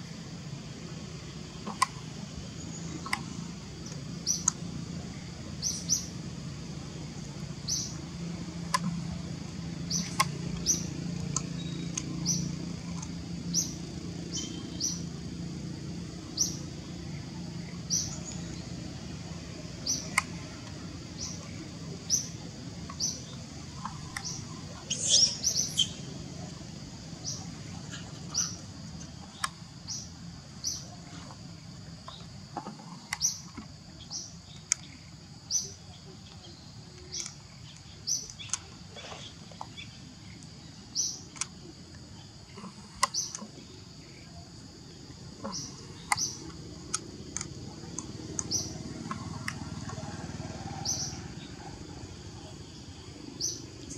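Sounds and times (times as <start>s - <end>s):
low background hum: 0.0s - 53.9s
bird chirping: 1.5s - 15.4s, 16.2s - 31.2s, 33.1s - 53.9s.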